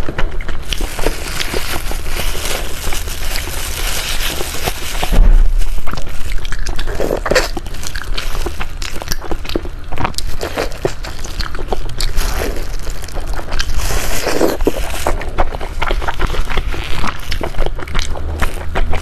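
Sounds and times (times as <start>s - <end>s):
chewing: 0.0s - 5.2s, 5.8s - 19.0s
plastic gloves crinkling: 0.0s - 19.0s.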